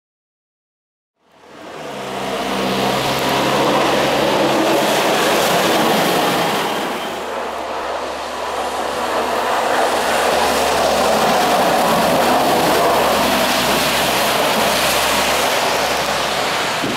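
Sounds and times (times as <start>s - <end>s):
truck diesel engine: 1.4s - 16.9s
tyres rushing on slushy pavement: 1.4s - 16.9s.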